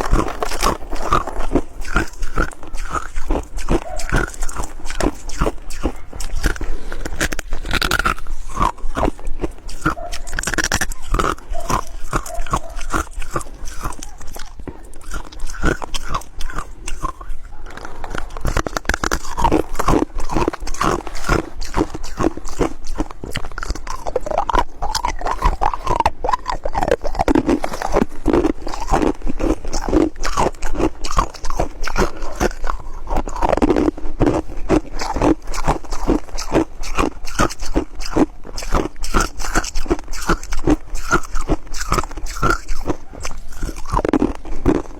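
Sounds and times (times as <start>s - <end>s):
ice being chewed crunching: 0.0s - 44.9s.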